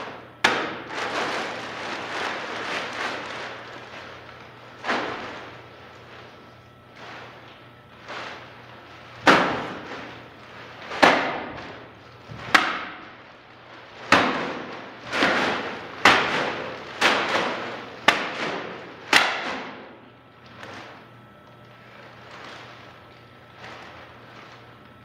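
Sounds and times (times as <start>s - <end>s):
heavy bags slammed on concrete: 0.0s - 25.0s.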